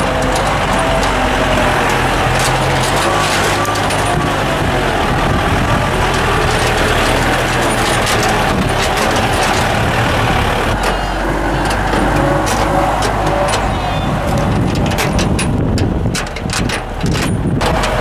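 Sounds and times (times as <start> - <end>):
rattles and knocks: 0.0 - 18.0
vehicle engine and road noise: 0.0 - 18.0.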